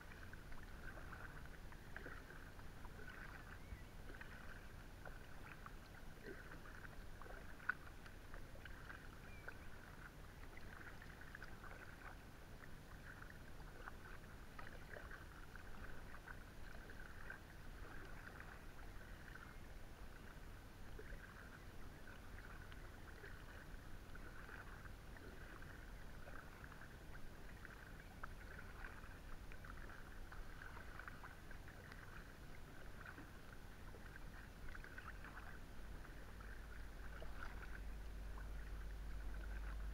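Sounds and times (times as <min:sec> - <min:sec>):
low steady rumble: 0:00.0 - 0:39.9
paddle splashing and dripping: 0:00.0 - 0:39.9.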